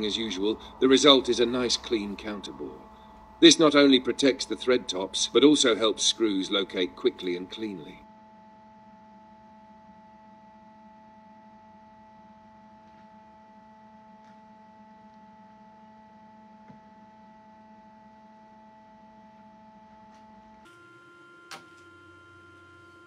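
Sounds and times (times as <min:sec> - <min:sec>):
faint machine hum: 0:00.0 - 0:23.0.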